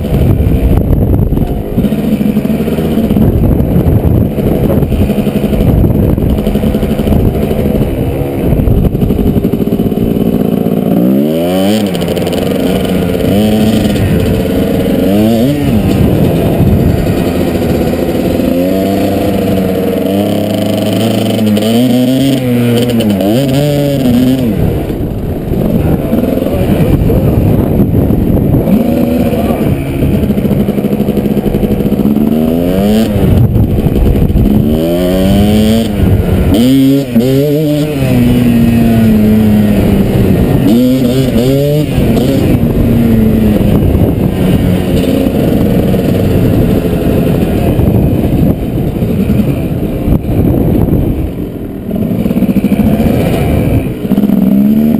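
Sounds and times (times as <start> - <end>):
dirt bike engine revving: 0.0 - 54.9
wind rush: 0.0 - 54.9.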